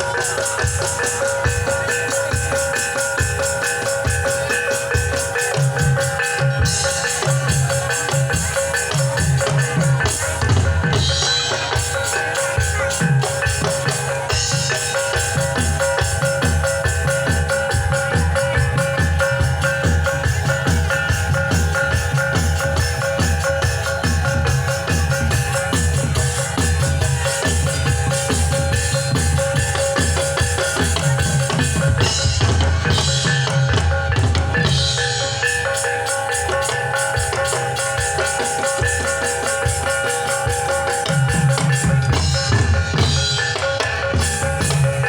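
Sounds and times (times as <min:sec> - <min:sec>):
drums beating fast rhythm: 0:00.0 - 0:45.0
ringing metallophone tones: 0:00.0 - 0:45.0.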